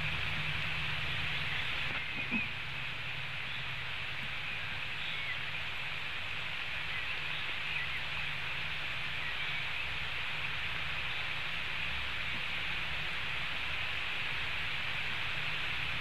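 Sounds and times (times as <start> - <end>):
heavy rain hiss: 0.0 - 16.0.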